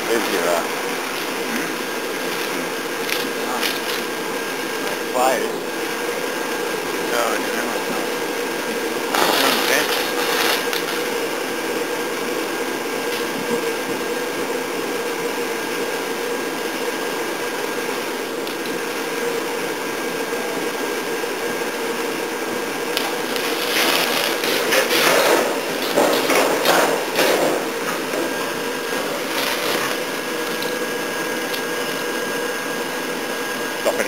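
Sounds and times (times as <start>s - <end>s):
blower fan whooshing hum: 0.0s - 34.0s.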